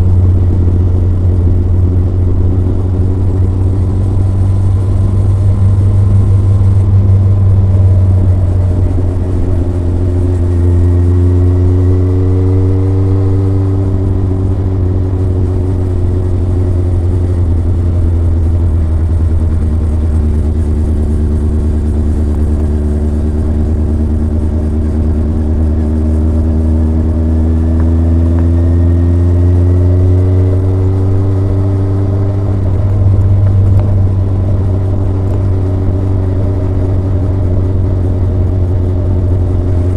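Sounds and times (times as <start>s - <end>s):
motorcycle engine and exhaust: 0.0s - 39.9s
steady low drone: 0.0s - 39.9s.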